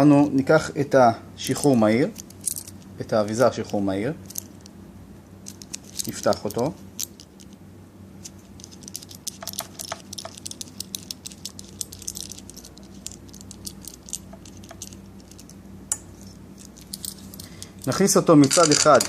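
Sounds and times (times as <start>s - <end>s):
small metal parts clicking and rattling: 1.5s - 4.8s, 5.4s - 7.6s, 8.2s - 19.0s.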